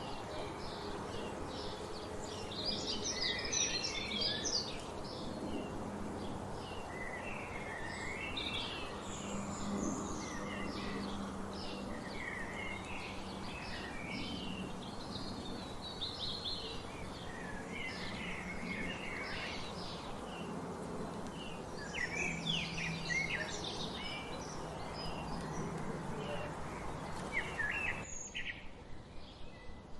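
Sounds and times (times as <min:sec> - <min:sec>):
birds singing and chirping: 0:00.0 - 0:29.7.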